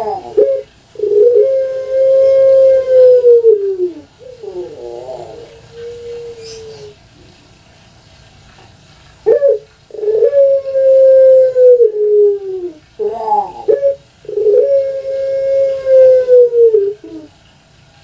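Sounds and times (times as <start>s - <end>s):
dove cooing: 0.0s - 7.4s, 9.2s - 17.5s.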